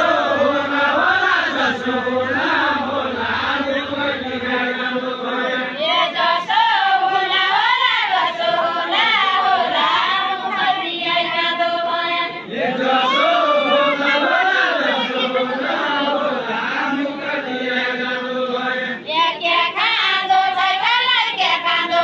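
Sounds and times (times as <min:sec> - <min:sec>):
group of voices singing: 0:00.0 - 0:22.0.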